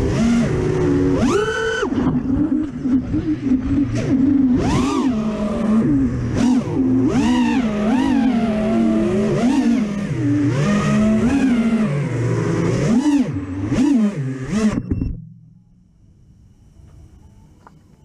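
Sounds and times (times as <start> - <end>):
quadcopter motors whining: 0.0 - 15.2.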